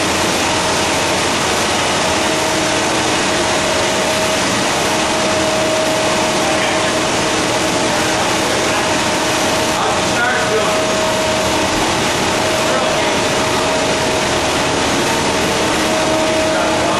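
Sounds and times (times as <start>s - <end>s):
mid-pitched machine whine: 0.0s - 16.9s
paper machine hiss and hum: 0.0s - 16.9s.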